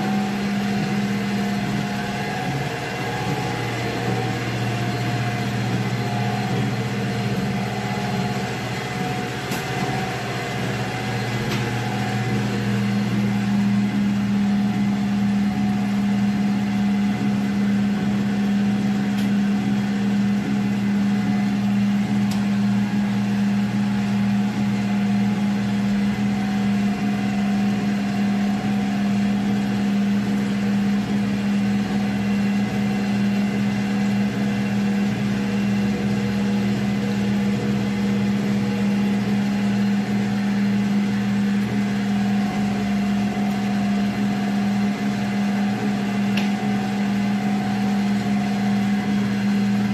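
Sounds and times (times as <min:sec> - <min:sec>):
hydraulic pump motor humming: 0:00.0 - 0:49.9.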